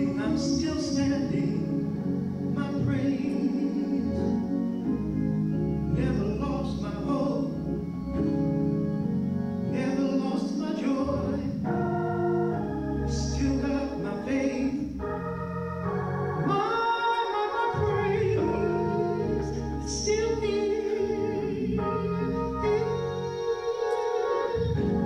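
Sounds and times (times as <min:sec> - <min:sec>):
sustained organ-like keyboard chords: 0:00.0 - 0:25.0.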